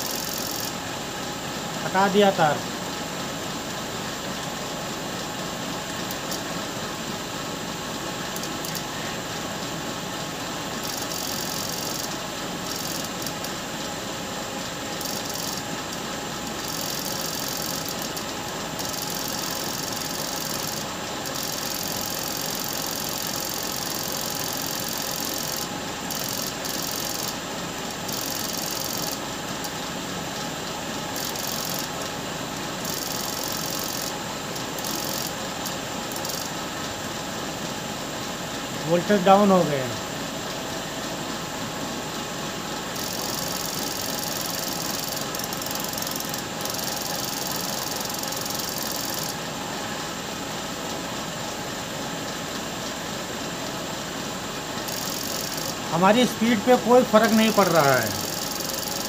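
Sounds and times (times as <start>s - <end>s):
generator whirring: 0.0s - 59.0s.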